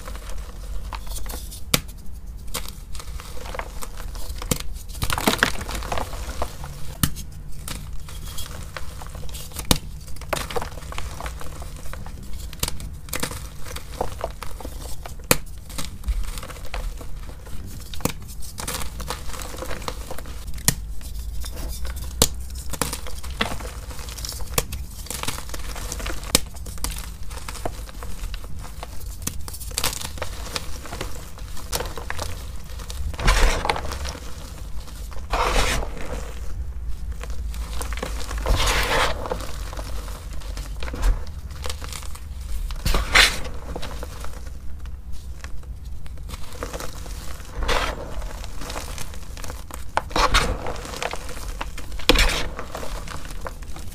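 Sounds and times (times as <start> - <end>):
chalk crushed by hand: 0.0 - 53.9.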